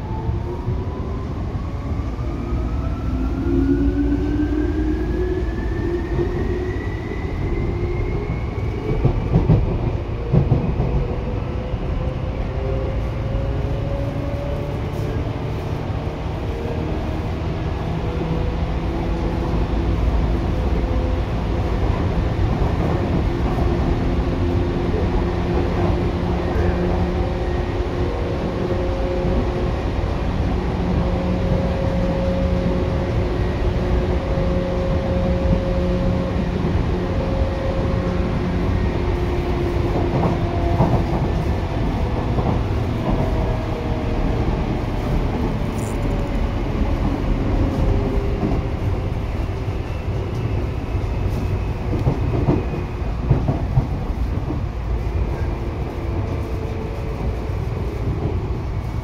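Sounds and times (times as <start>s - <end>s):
wheel and rail rumble: 0.0s - 59.0s.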